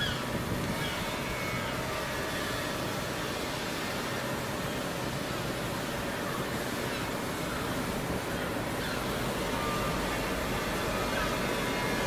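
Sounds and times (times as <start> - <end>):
diesel locomotive engine humming: 0.0 - 12.0.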